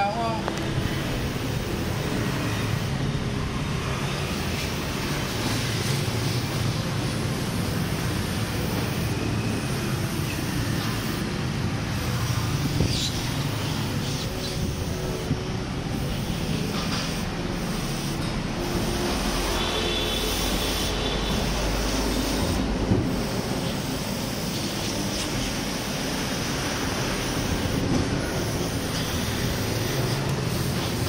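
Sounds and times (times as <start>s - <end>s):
aerosol spray hissing: 0.3s - 31.0s.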